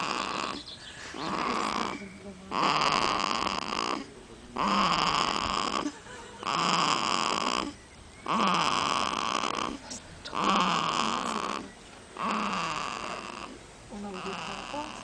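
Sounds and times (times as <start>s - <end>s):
baby snoring: 0.0s - 0.6s, 1.2s - 15.0s.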